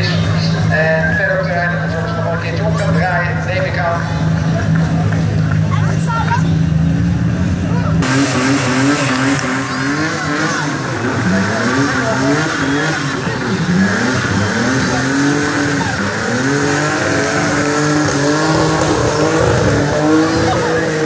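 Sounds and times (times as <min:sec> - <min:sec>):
car engines revving hard: 0:00.0 - 0:21.0
tyres screeching on asphalt: 0:00.0 - 0:21.0.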